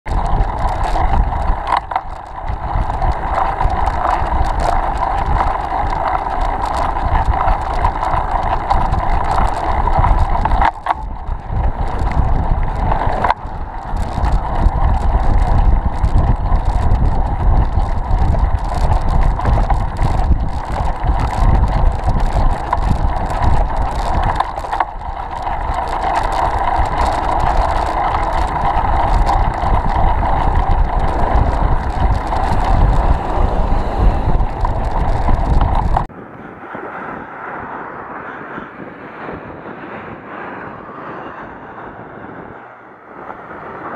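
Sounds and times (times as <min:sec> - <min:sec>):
wind buffeting microphone: 0:00.0 - 0:43.9
bicycle tyres on asphalt: 0:00.1 - 0:43.9.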